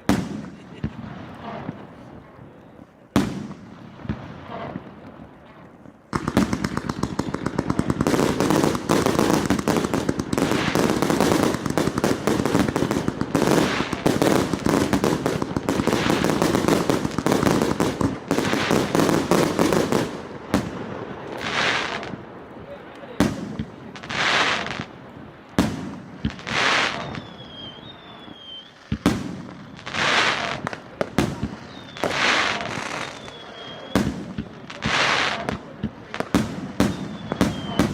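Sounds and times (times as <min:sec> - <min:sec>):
fireworks crackling pops: 0:00.0 - 0:37.9.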